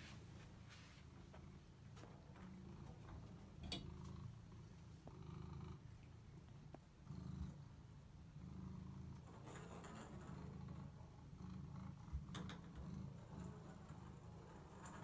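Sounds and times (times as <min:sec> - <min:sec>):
cat purring: 0:01.1 - 0:15.0.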